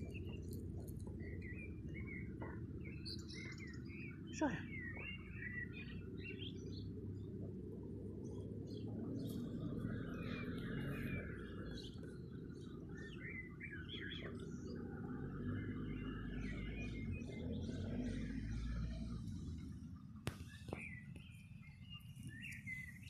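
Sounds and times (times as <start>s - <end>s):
songbirds chirping and trilling: 0.0s - 23.0s
steady low rumble: 0.0s - 23.0s.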